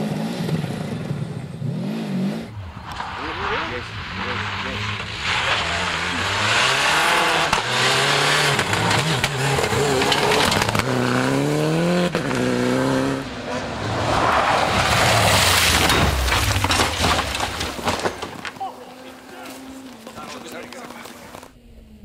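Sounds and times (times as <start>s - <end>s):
rally car engine at full throttle: 0.0s - 21.6s
car passing rush: 0.6s - 22.0s.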